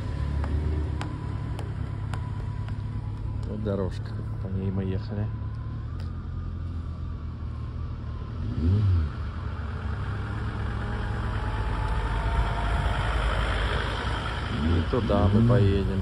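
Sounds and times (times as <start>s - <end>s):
vehicle engine accelerating: 0.0s - 16.0s.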